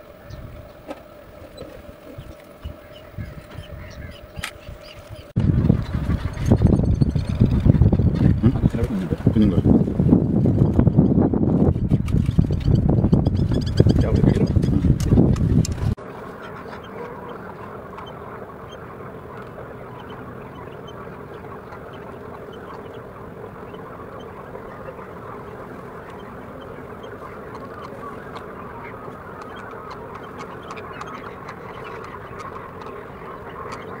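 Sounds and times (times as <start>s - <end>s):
flock of birds calling: 0.0s - 11.3s, 12.0s - 34.0s.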